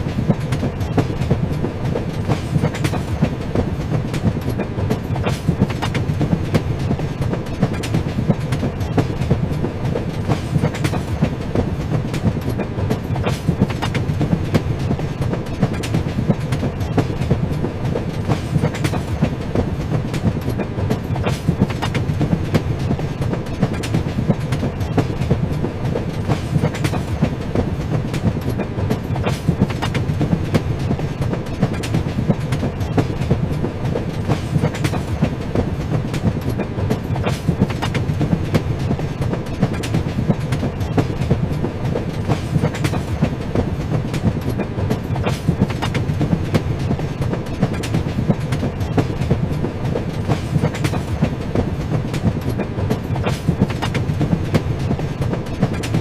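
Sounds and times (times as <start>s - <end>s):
clickety-clack of track: 0.0s - 56.0s
train wheels rumbling on rails: 0.0s - 56.0s.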